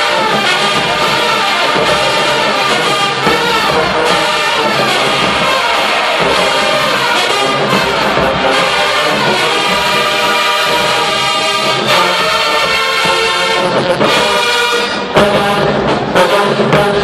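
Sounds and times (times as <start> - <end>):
marching band playing: 0.0 - 17.0
trumpets and trombones chords: 0.0 - 17.0.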